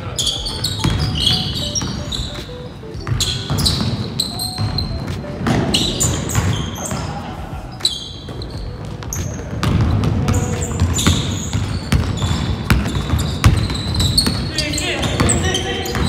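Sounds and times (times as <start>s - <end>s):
sneakers squeaking on court: 0.0s - 16.0s
basketball bouncing: 0.4s - 7.2s, 8.2s - 16.0s.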